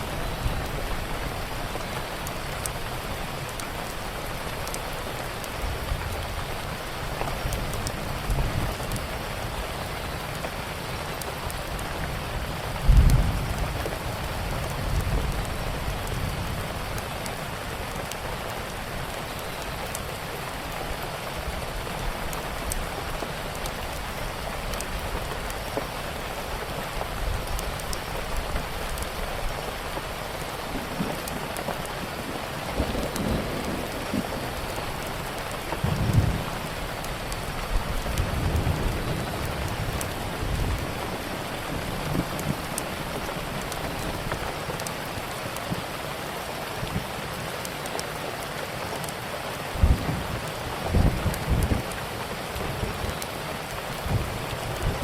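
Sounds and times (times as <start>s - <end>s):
crackling wood fire: 0.0s - 55.0s
steady rain: 0.0s - 55.0s.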